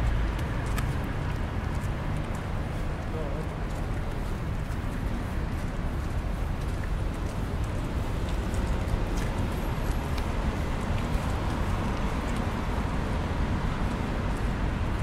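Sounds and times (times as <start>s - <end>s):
rumble of passing cars: 0.0s - 15.0s.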